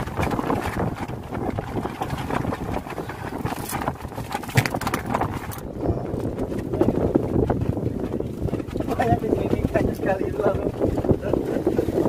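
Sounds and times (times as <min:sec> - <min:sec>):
water slapping against boat hull: 0:00.0 - 0:12.0.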